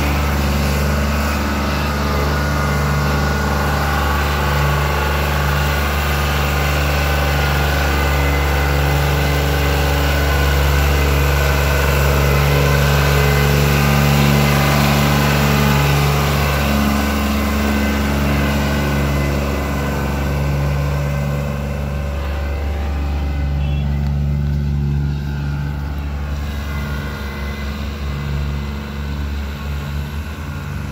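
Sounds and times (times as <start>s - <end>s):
tractor diesel engine under load: 0.0s - 30.9s.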